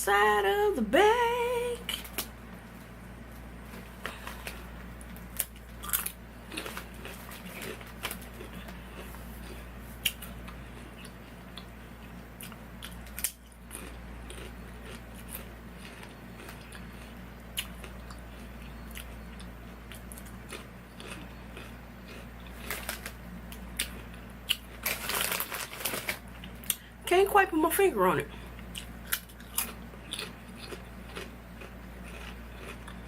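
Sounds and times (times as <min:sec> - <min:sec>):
steady low hum: 0:00.0 - 0:33.0
person crunching potato chips: 0:01.9 - 0:02.3, 0:03.7 - 0:26.9, 0:28.6 - 0:33.0.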